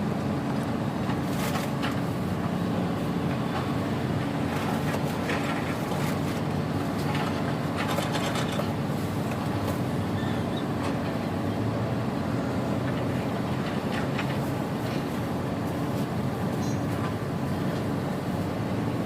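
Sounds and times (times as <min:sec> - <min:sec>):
diesel engine drone: 0:00.0 - 0:19.0.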